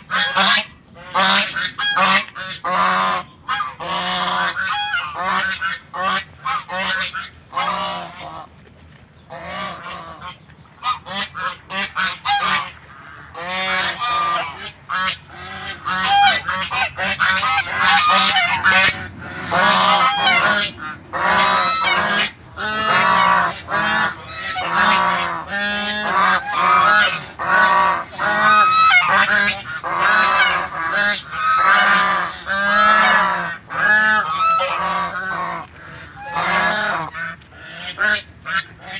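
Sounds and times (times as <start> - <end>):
geese honking: 0.0 - 8.4, 9.3 - 38.9.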